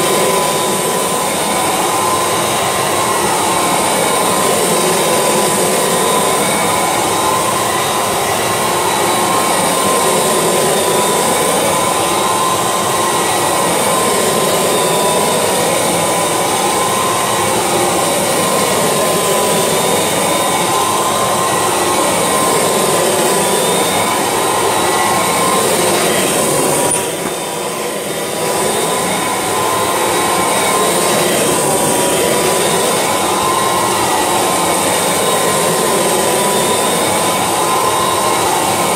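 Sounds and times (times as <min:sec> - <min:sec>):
upright vacuum cleaner whining on carpet: 0:00.0 - 0:38.9.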